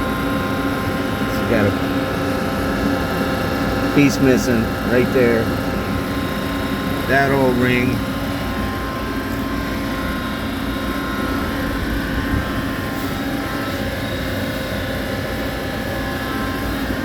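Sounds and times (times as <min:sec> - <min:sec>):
machinery droning: 0:00.0 - 0:17.0.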